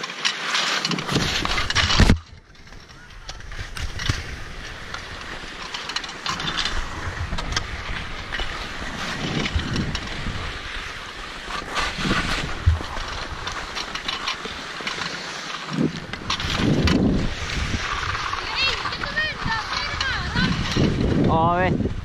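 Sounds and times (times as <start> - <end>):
skis scraping over packed snow: 0.0 - 22.0
wind on microphone: 1.0 - 5.6, 6.3 - 14.1, 15.7 - 22.0.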